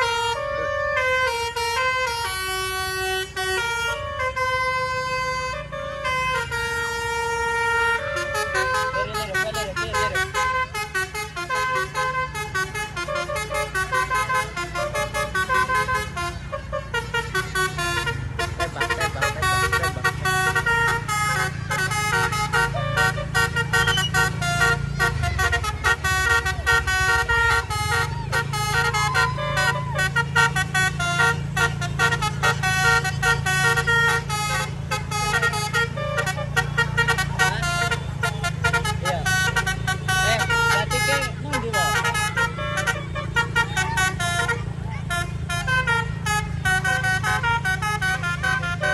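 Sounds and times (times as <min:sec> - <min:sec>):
melodic bus horn: 0:00.0 - 0:48.9.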